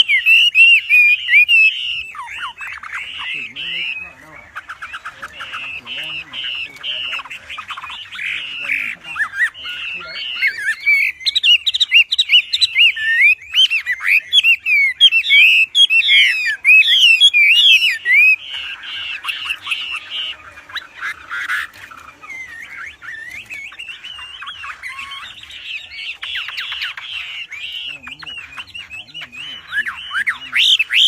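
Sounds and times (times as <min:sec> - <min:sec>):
songbird singing: 0:00.0 - 0:31.0.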